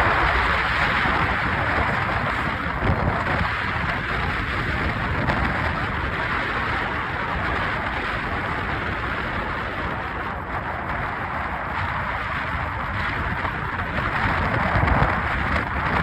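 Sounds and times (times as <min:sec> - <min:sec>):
cable car rushing noise: 0:00.0 - 0:16.0
wind: 0:00.0 - 0:16.0.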